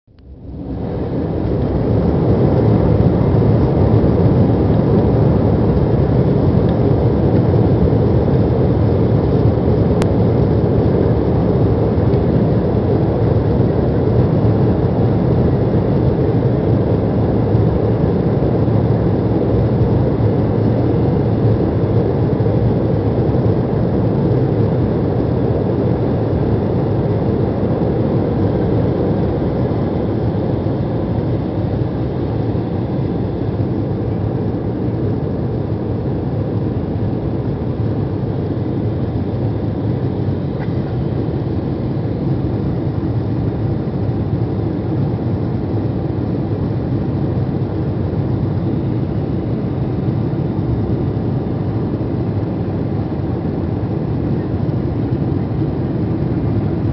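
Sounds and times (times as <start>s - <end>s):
jet engines roaring in cabin: 0.1s - 56.9s.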